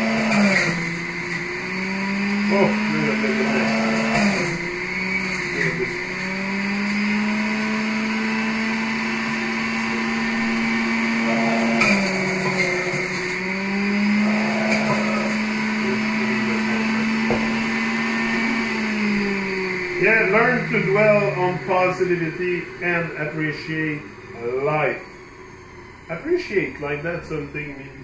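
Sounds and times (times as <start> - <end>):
electric juicer motor humming: 0.0 - 28.0.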